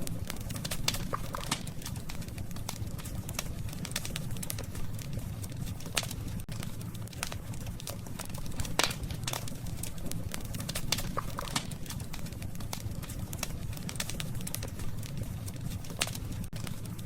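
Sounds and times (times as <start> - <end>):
campfire crackling: 0.0 - 17.0
low fire rumble: 0.0 - 17.0.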